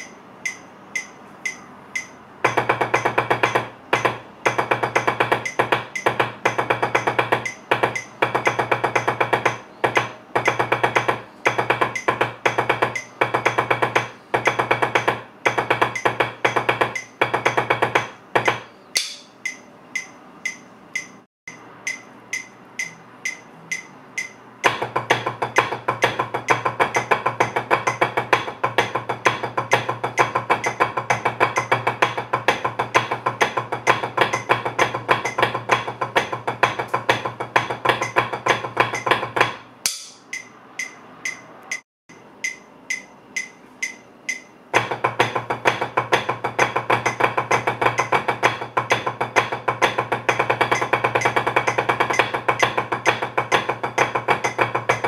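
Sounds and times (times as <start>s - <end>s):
drumsticks on a practice pad: 0.0s - 55.0s.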